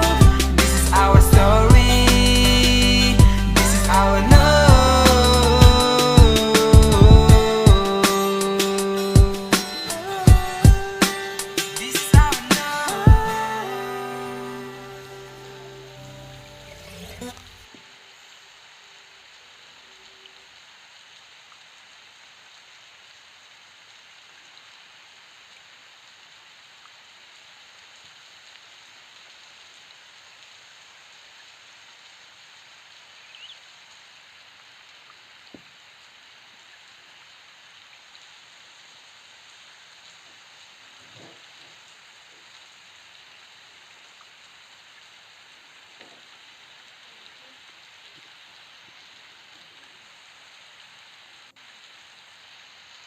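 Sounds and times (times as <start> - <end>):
rain hiss: 0.0 - 53.0.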